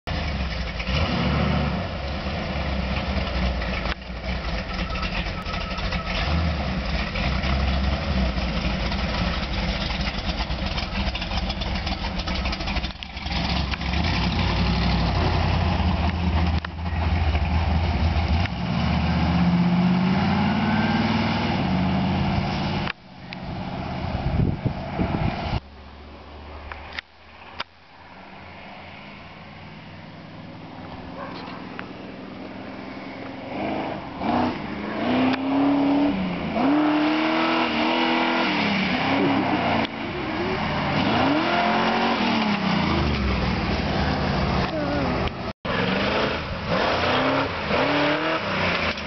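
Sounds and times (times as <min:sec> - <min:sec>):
car engine revving: 0:00.1 - 0:25.6, 0:30.1 - 0:49.0.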